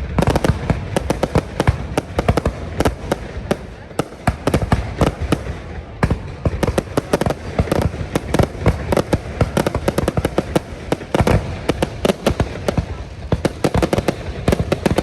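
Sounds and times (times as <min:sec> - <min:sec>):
firework bangs: 0:00.0 - 0:15.0
rumble of firework bursts: 0:00.0 - 0:15.0.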